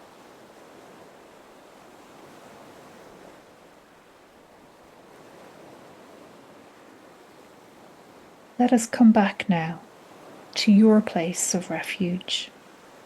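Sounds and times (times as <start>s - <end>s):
gentle ocean waves: 0.0s - 13.0s.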